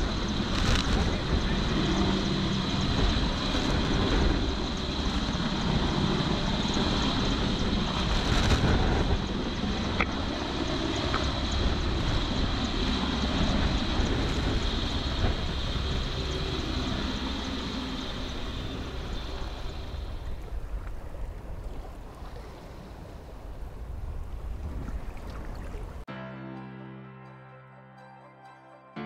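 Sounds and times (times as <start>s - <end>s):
helicopter rotor and turbine din: 0.0s - 24.6s
wind buffeting microphone: 0.0s - 26.0s.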